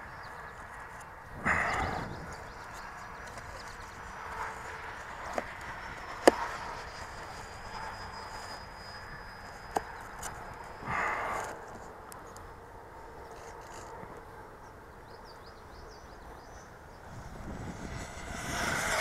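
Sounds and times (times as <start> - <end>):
faint high steady whine: 0.0 - 19.0.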